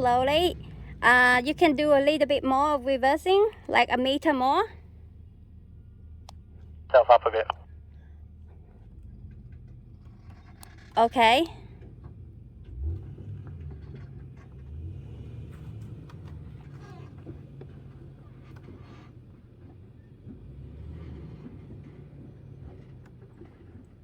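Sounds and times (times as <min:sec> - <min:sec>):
vehicle engine low rumble: 0:00.0 - 0:24.0.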